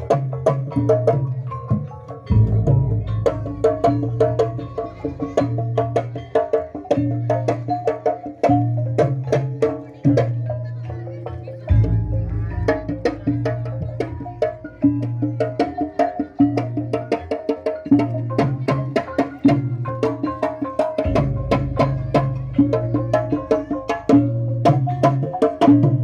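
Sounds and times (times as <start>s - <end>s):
gamelan ensemble playing: 0.0s - 26.0s.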